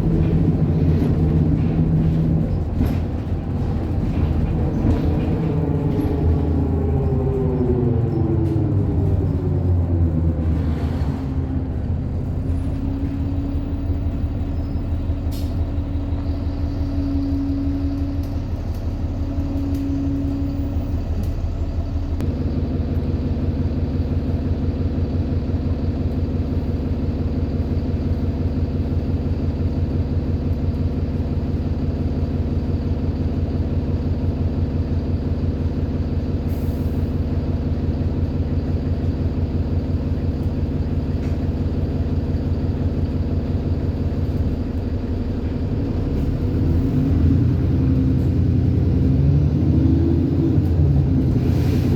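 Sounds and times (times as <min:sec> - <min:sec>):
bus engine idling: 0:00.0 - 0:51.9
bus engine whine: 0:00.0 - 0:51.9.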